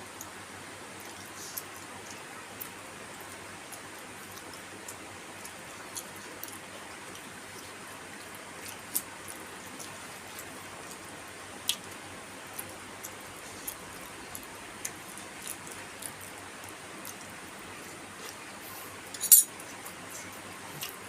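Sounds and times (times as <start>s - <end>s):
eating clicks and smacks: 1.0s - 18.4s, 19.6s - 21.0s.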